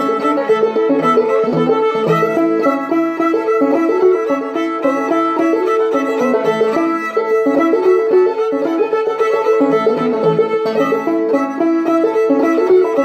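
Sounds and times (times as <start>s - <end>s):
bowed fiddle melody: 0.0s - 13.0s
plucked banjo notes: 0.0s - 13.0s.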